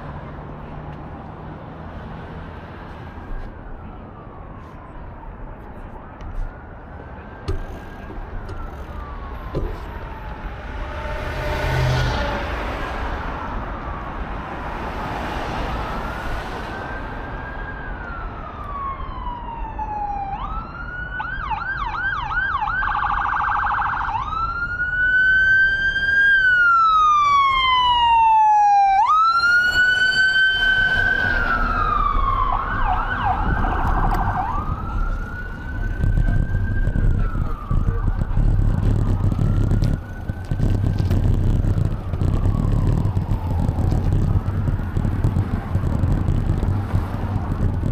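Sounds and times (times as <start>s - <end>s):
low traffic rumble: 0.0s - 47.9s
emergency siren wail and yelp: 2.0s - 47.9s.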